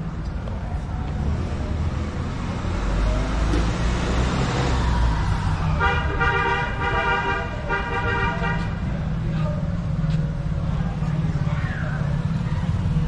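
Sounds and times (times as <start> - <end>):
vehicle passing: 0.6 - 13.0.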